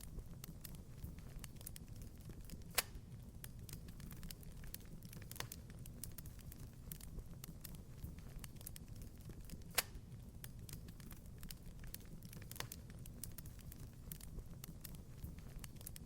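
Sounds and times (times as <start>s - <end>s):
fire snaps and pops: 0.0s - 16.0s
low rumble of flames: 0.0s - 16.0s
wood fire crackling: 0.0s - 16.0s.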